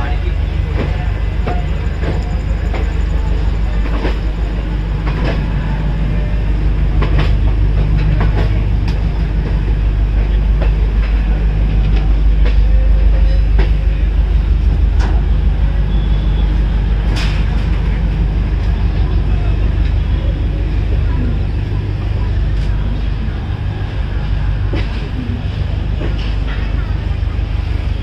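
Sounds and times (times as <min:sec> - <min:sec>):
train rumbling on track: 0:00.0 - 0:28.0
wheels clicking and clanking on rail: 0:00.0 - 0:28.0.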